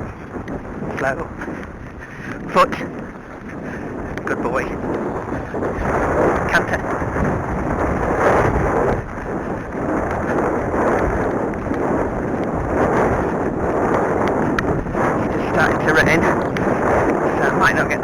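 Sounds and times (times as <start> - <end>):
horse cantering: 0.0 - 18.0
wind rumble on microphone: 0.0 - 18.0.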